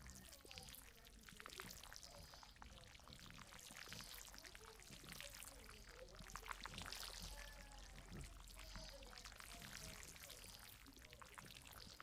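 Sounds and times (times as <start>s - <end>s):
faint rain patter: 0.0s - 12.0s.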